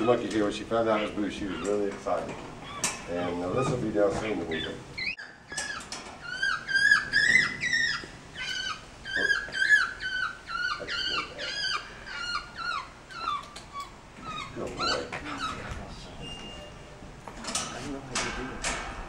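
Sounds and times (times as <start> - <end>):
monkey squeaky calls: 0.9 - 1.9, 2.6 - 16.9.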